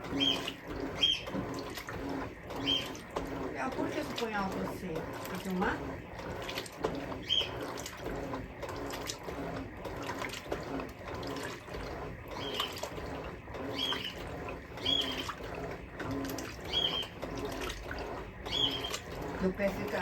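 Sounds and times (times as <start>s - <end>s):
washing machine water sloshing: 0.0s - 20.0s.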